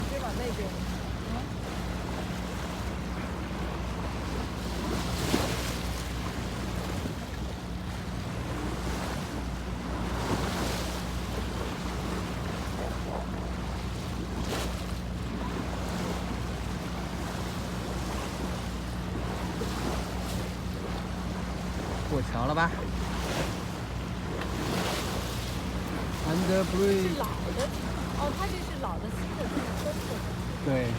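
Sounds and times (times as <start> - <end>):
water splashing along boat hull: 0.0 - 30.9.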